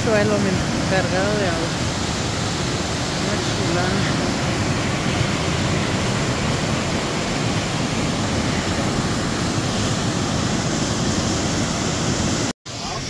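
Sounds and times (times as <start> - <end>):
waterfall and creek rushing: 0.0 - 13.0.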